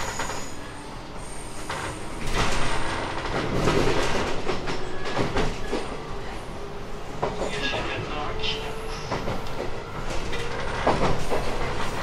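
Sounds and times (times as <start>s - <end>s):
train wheels rolling on track: 0.0s - 12.0s.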